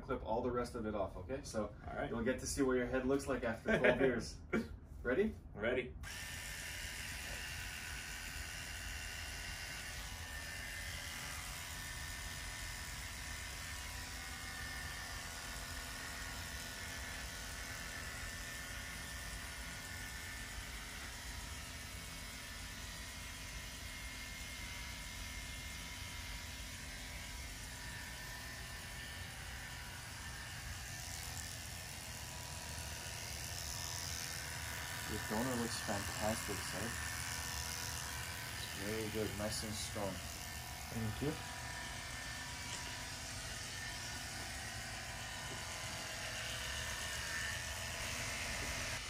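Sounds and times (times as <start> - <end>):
electric hair clippers buzzing: 6.0 - 49.0.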